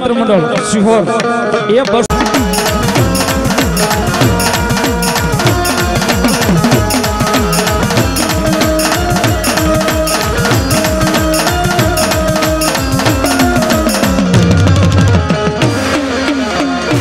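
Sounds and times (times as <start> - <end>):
sustained string melody: 0.1 - 17.0
hand drums fast beat: 2.0 - 17.0.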